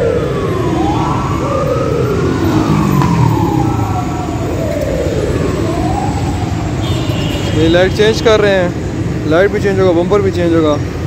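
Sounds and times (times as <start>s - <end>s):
wailing siren: 0.0s - 9.1s
low street rumble: 0.0s - 11.0s.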